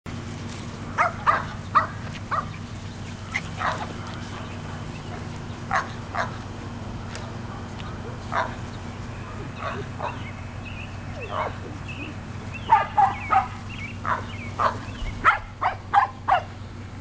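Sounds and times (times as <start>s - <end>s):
puppies yapping: 0.8s - 16.7s.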